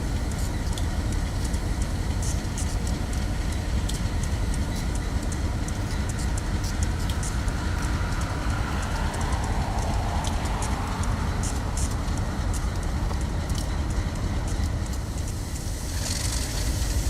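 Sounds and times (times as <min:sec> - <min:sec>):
faint whine: 0:00.0 - 0:17.0
train passing rumble: 0:00.0 - 0:17.0
wheels clicking on rail: 0:00.0 - 0:17.0.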